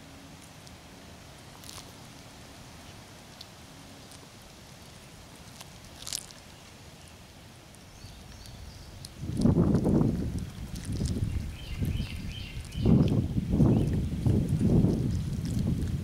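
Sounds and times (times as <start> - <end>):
cat chewing crunches: 0.3 - 6.8, 7.6 - 16.0.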